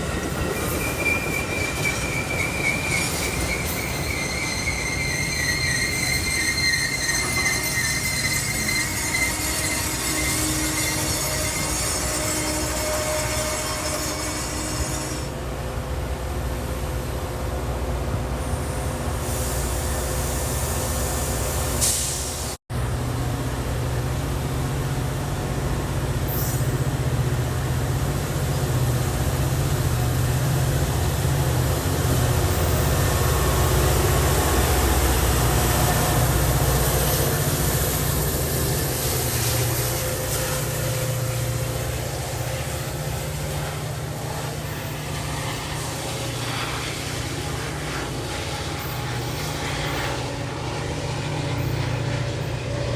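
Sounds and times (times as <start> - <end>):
train rumbling past: 0.0 - 52.9.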